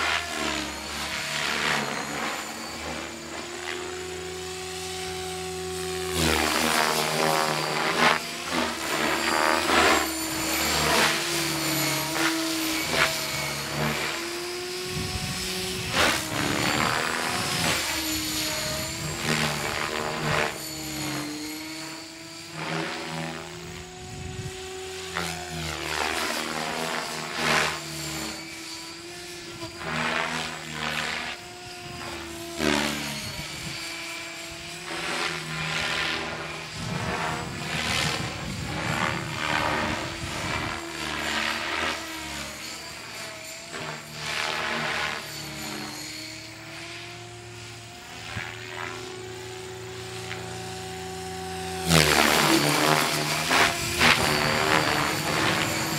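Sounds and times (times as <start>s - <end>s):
model helicopter motor whine: 0.0s - 55.9s
rotor blades humming: 0.0s - 55.9s.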